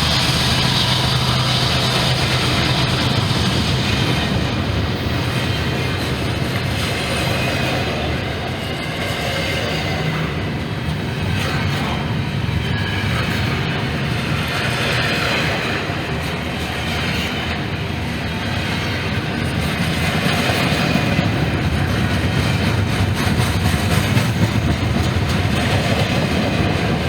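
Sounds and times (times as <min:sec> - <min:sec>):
freight train wheels on rail: 0:00.0 - 0:27.0.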